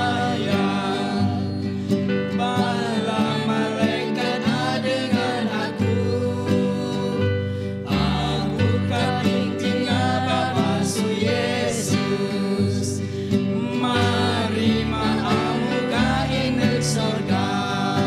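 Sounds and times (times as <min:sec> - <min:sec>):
group singing together: 0:00.0 - 0:18.0
strummed acoustic guitar: 0:00.0 - 0:18.0.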